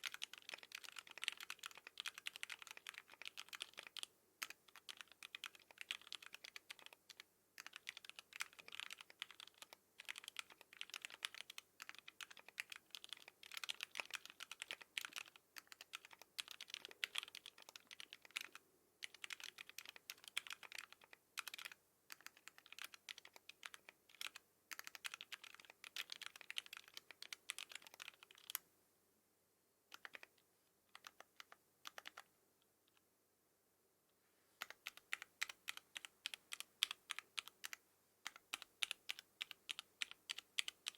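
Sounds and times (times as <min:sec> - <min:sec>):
mechanical keyboard typing: 0:00.0 - 0:28.6, 0:29.9 - 0:30.3, 0:30.9 - 0:32.3, 0:34.6 - 0:40.9.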